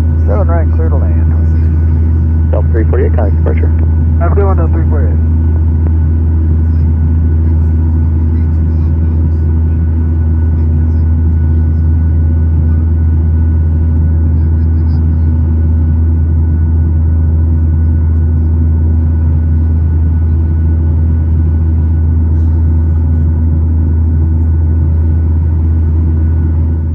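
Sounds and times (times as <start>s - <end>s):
aircraft cabin engine drone: 0.0s - 26.9s.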